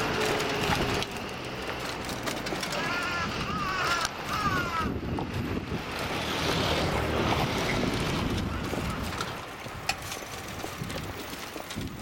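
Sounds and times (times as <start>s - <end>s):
electric train rumbling: 0.0s - 12.0s
wheels clicking over rail joints: 0.0s - 12.0s.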